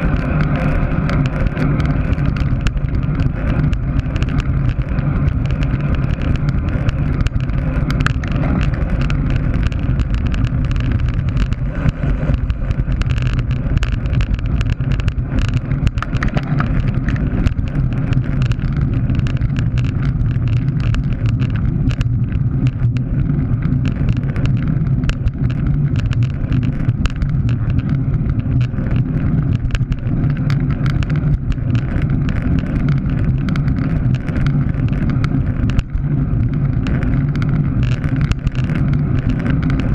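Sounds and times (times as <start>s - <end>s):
bicycle clicks and rattles: 0.0s - 39.9s
tyre noise on asphalt: 0.0s - 39.9s
wind buffeting microphone: 0.0s - 39.9s.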